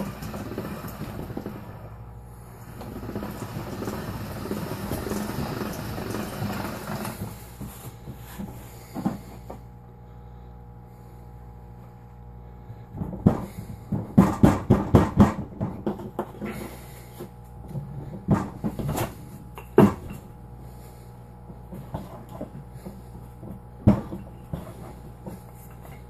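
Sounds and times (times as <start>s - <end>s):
pasta machine rollers rumbling: 0.0s - 11.2s, 12.5s - 26.0s.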